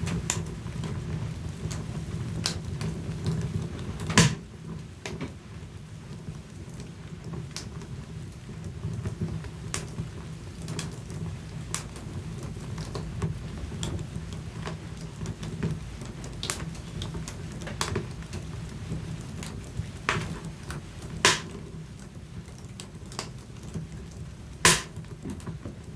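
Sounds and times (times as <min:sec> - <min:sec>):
fire crackles and pops: 0:00.0 - 0:25.9
fire rumbling: 0:00.0 - 0:25.9.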